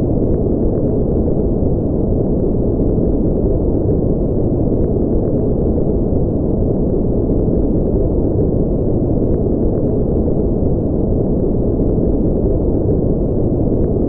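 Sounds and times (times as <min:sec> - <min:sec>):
deep muffled white noise: 0:00.0 - 0:14.0.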